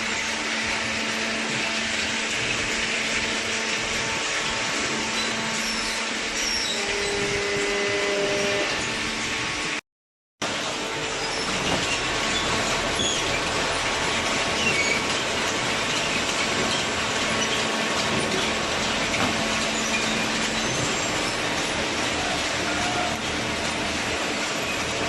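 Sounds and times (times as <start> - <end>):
paper baling machinery running: 0.0 - 9.8, 10.4 - 25.0.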